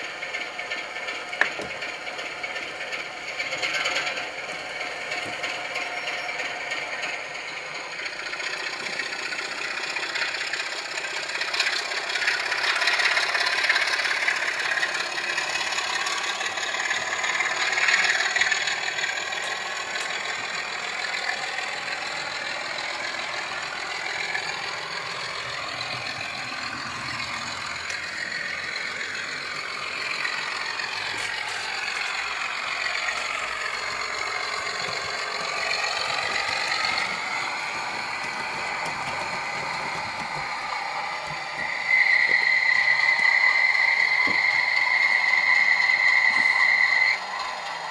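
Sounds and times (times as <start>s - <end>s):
model locomotive diesel engine: 0.0s - 47.9s.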